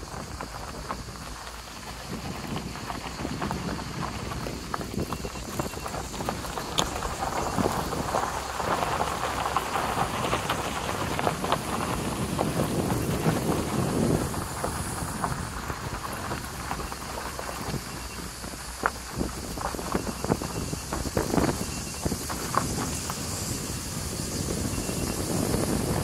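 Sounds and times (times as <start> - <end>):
tyres crunching on gravel: 0.0 - 26.0.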